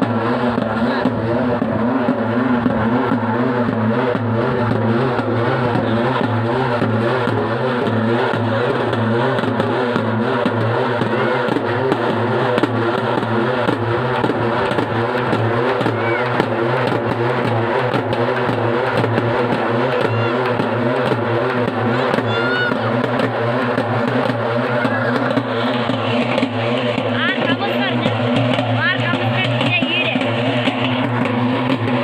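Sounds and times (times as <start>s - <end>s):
barrel drums beaten fast: 0.0s - 32.0s.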